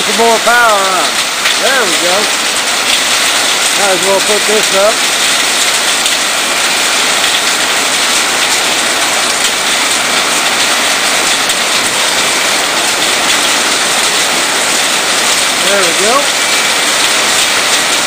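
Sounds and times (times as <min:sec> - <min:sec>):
rain and hail on metal roof: 0:00.0 - 0:18.0.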